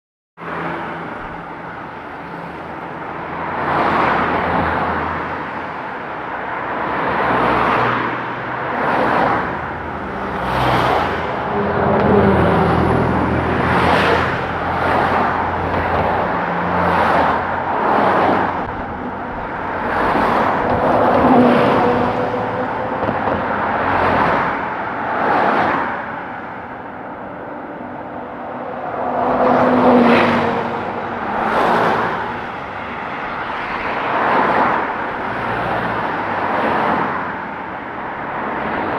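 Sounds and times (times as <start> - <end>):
cars passing: 0.4 - 38.9.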